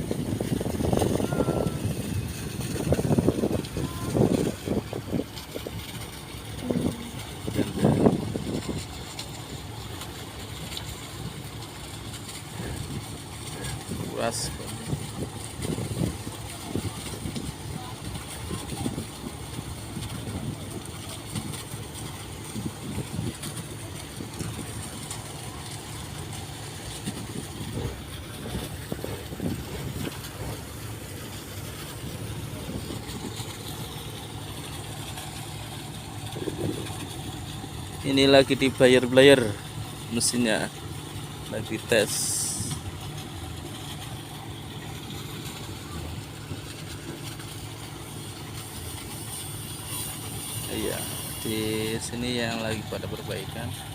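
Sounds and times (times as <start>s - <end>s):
boat engine idling: 0.0s - 53.9s.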